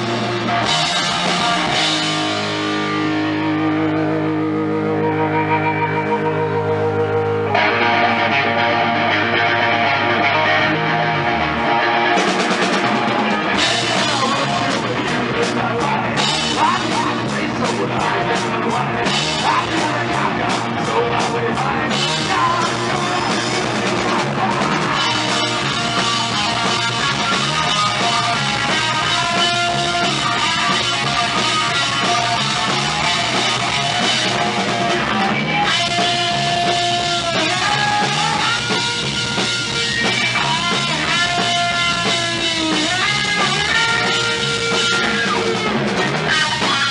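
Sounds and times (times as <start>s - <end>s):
bending guitar notes: 0.0s - 20.9s, 21.9s - 46.9s
bass guitar: 0.0s - 46.9s
drum kit: 0.0s - 46.9s
electric guitar: 0.0s - 46.9s.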